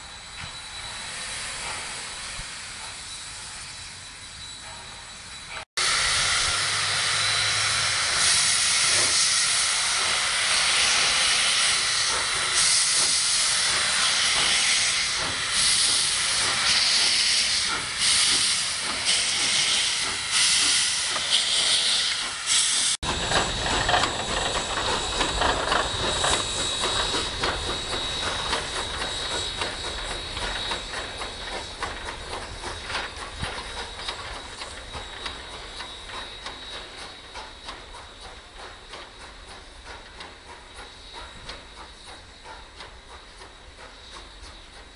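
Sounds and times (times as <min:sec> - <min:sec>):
steam locomotive hissing: 0:00.0 - 0:44.9
loud blasts of venting steam: 0:05.8 - 0:44.2
soft pulsing steam hiss: 0:06.5 - 0:44.9.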